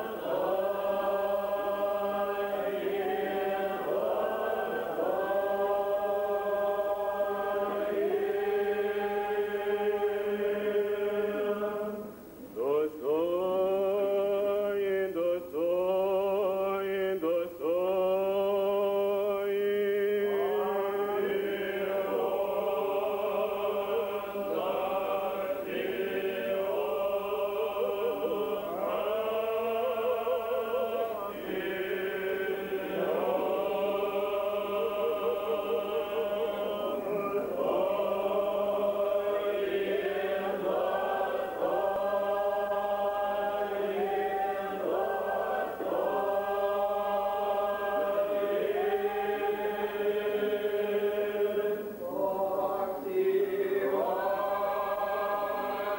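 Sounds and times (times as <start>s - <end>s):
choir singing liturgical chant: 0.0s - 55.9s.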